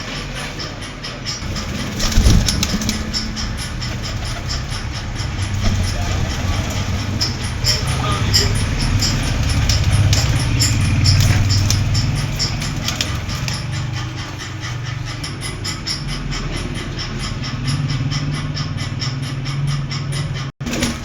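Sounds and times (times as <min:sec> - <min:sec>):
fast high ticking: 0:00.0 - 0:21.0
low mechanical hum: 0:00.0 - 0:21.0.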